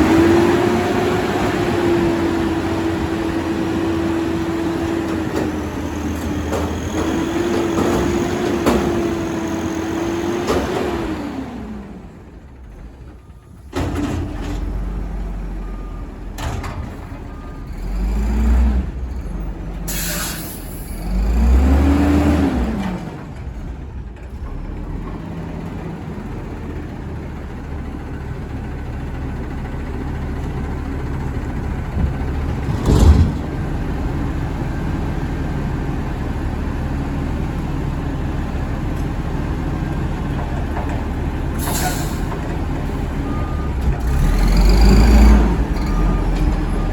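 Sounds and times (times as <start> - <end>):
diesel engine revving: 0.0 - 13.1, 17.4 - 27.6, 28.8 - 46.9.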